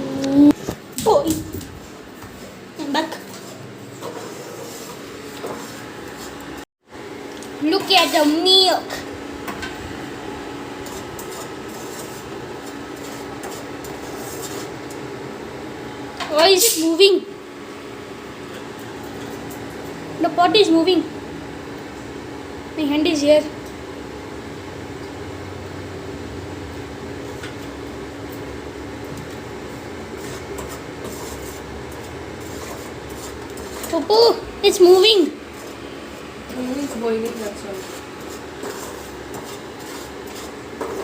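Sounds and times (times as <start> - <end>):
induction cooktop humming: 0.0 - 41.0.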